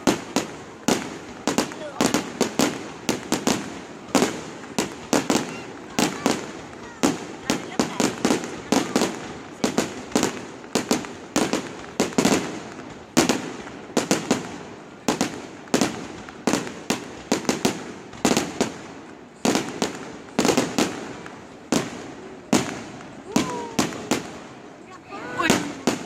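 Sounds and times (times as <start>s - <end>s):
firework shells bursting: 0.0s - 24.8s.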